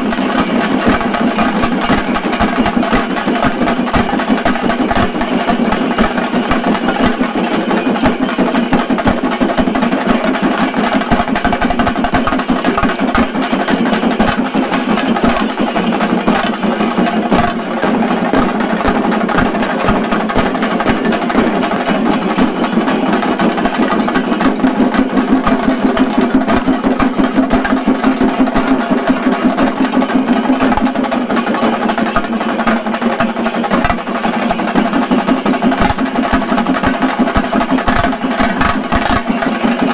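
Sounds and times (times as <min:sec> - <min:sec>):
fast dense drumming with sticks: 0:00.0 - 0:39.9.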